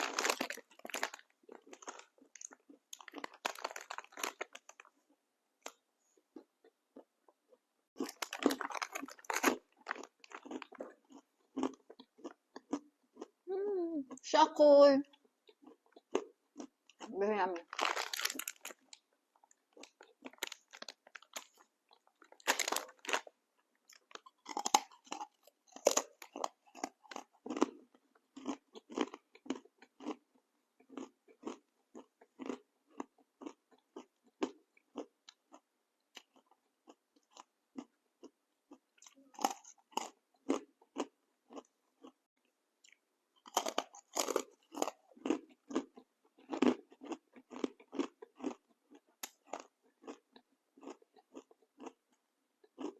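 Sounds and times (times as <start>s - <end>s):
person chewing crunchy snack: 0.0s - 13.5s, 15.1s - 52.9s.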